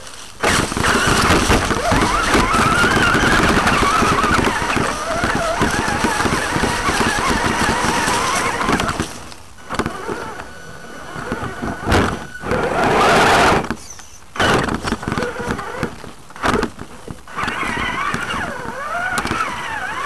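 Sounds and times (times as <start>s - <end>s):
drivetrain rattle: 0.0s - 20.0s
tyres crackling through leaves: 0.0s - 20.0s
electric motor whining: 0.4s - 20.0s.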